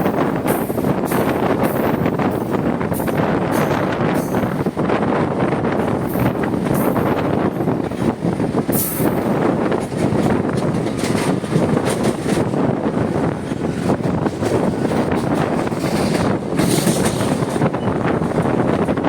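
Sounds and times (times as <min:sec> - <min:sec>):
train rumbling: 0:00.0 - 0:19.0
train wheel clatter: 0:00.0 - 0:19.0
wind buffeting microphone: 0:00.0 - 0:19.0.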